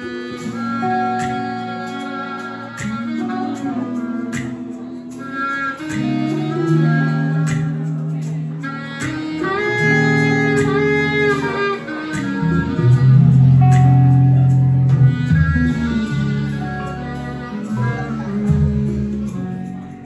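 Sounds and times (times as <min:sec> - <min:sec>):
bass guitar: 0:00.0 - 0:20.0
drums: 0:00.0 - 0:20.0
electric guitar: 0:00.0 - 0:20.0
saxophone: 0:00.0 - 0:20.0.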